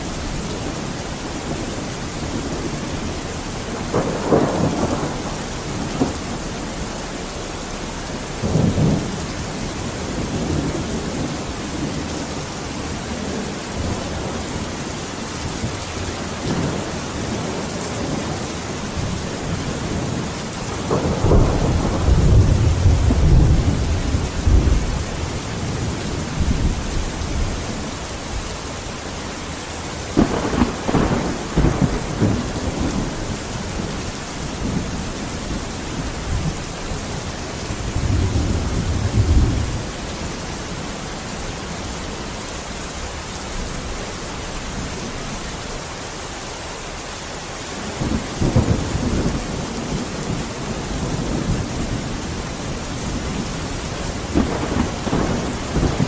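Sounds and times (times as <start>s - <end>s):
rain hissing: 0.0s - 56.0s
thunder rolling: 0.2s - 14.8s, 15.5s - 28.4s, 30.0s - 39.9s, 47.9s - 56.0s.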